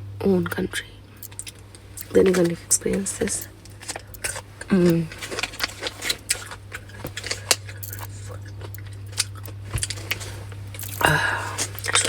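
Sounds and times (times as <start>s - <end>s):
steady low hum: 0.0s - 12.0s
snack packaging crackling: 1.2s - 12.0s.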